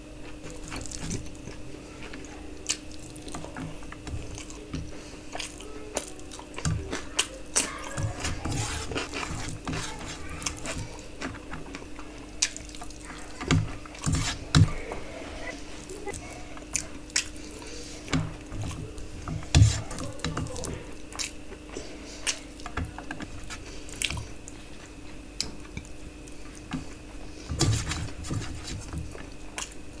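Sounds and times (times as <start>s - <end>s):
wet chewing and lip-smacking: 0.2s - 14.9s, 15.7s - 27.4s, 28.5s - 30.0s.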